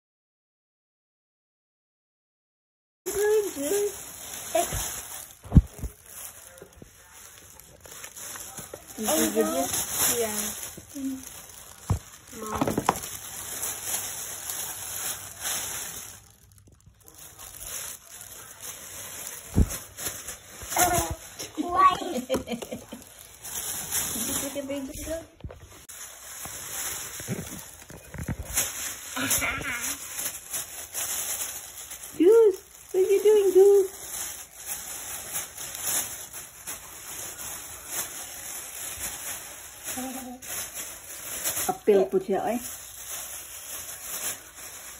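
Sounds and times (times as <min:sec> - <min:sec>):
plastic bag rustling: 0:03.1 - 0:44.9.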